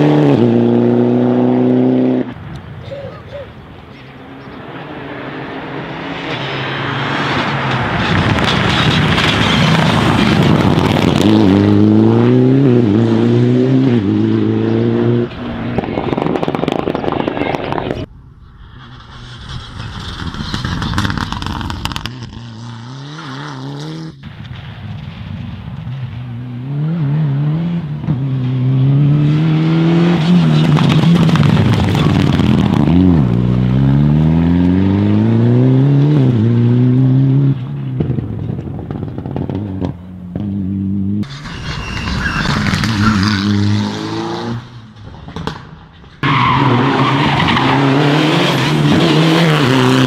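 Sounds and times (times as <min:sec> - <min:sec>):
rally car engine revving: 0:00.0 - 0:02.4, 0:04.2 - 0:18.1, 0:19.2 - 0:24.3, 0:26.1 - 0:50.0.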